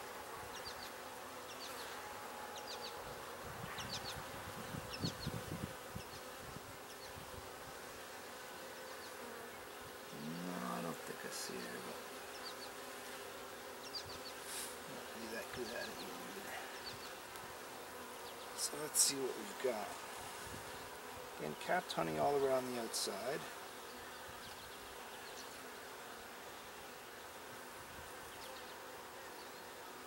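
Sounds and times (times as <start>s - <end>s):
honeybees buzzing: 0.0s - 30.0s.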